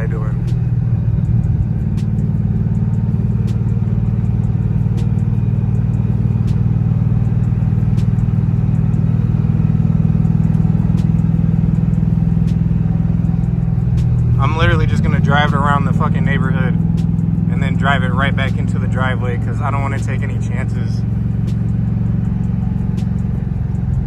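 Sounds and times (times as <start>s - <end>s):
engine idling: 0.0s - 24.0s
faint engine tick: 0.0s - 24.0s.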